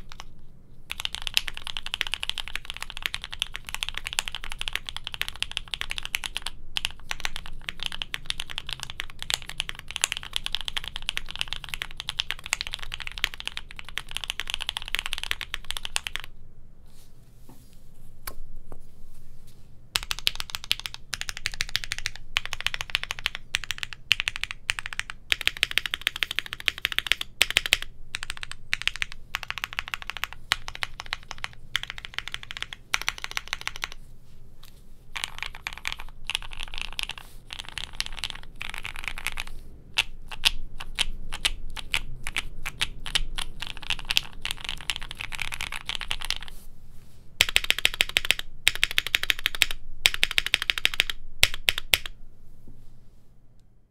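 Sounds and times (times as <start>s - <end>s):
mechanical keyboard typing: 0.0s - 0.3s, 0.9s - 16.4s, 20.0s - 34.0s, 35.2s - 46.5s, 47.4s - 52.2s.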